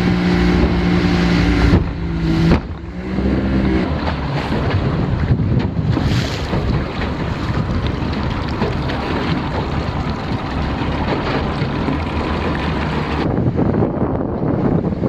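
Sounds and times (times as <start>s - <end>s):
boat travelling on water: 0.0s - 15.0s
wind buffeting microphone: 0.0s - 15.0s.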